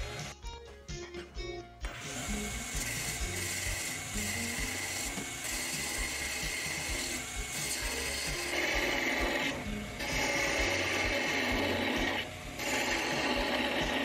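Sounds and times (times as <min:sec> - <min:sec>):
wood lathe running: 0:01.9 - 0:14.0
turning tool scraping wood: 0:02.0 - 0:14.0.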